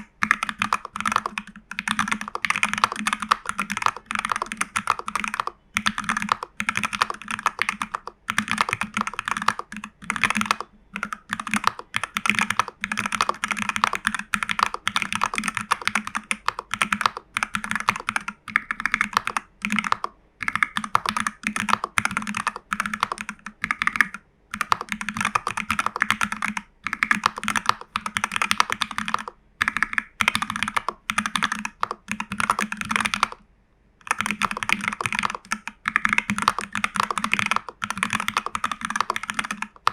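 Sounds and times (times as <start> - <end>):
fast typing on mechanical keyboard: 0.0 - 33.4, 34.0 - 39.9.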